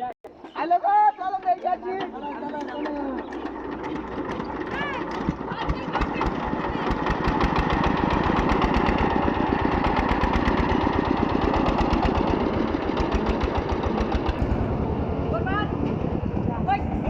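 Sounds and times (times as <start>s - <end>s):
diesel engine chugging: 0.3s - 17.0s.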